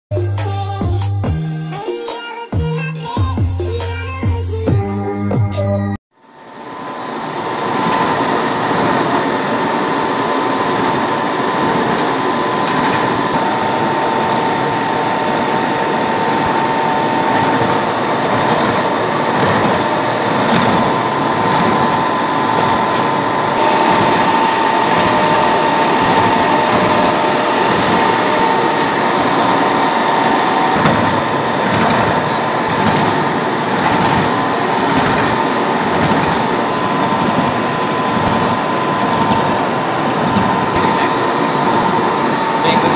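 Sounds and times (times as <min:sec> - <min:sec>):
steady machine whine: 0:00.1 - 0:42.9
milling machine cutting metal: 0:06.6 - 0:42.9.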